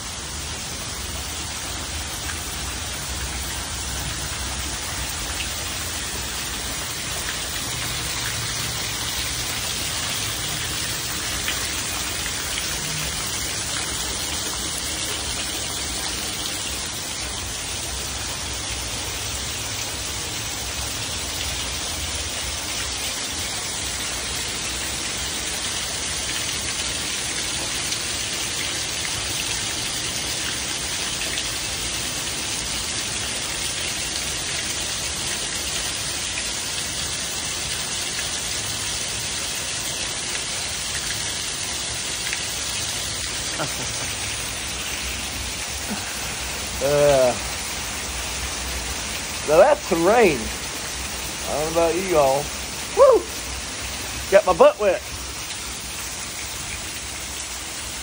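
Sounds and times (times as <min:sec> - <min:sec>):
heavy rain falling: 0:00.0 - 0:58.0
water pouring off roof edge: 0:00.0 - 0:58.0.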